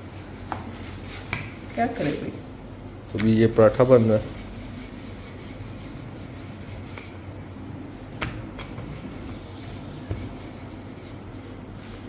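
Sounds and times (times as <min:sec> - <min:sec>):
kitchen background noise: 0:00.0 - 0:12.0.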